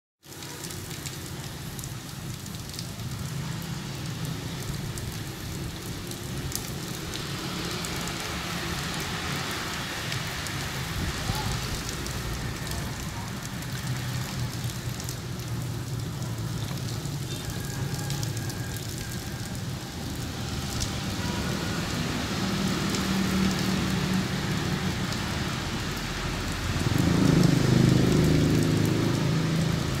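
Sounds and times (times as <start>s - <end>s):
rain splashing into puddles: 0.2s - 30.0s.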